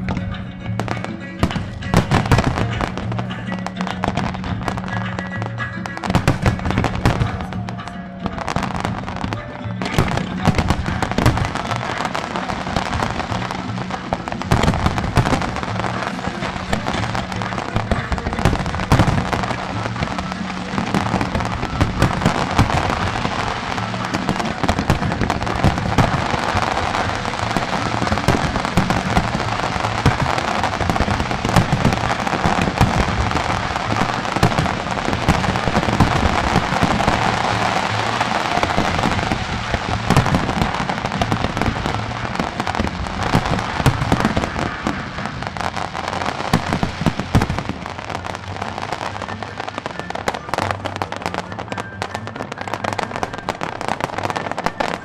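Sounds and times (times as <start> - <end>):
fireworks bangs and crackles: 0.0 - 55.0
music playing: 0.0 - 55.0.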